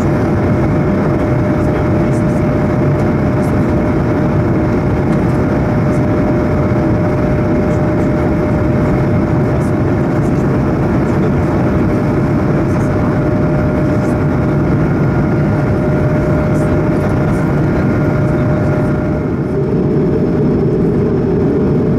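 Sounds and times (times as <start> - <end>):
constant cabin hum: 0.0 - 21.9
jet engines and rushing air: 0.0 - 21.9.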